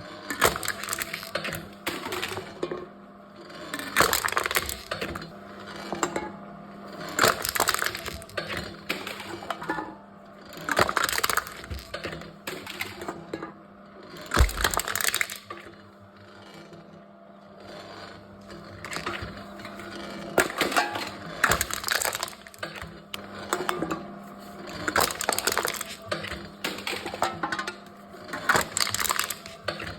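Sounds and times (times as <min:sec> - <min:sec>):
cans crunching in crushing machine: 0:00.0 - 0:02.8, 0:03.4 - 0:06.2, 0:06.9 - 0:09.7, 0:10.4 - 0:13.2, 0:14.0 - 0:15.9, 0:17.6 - 0:29.9.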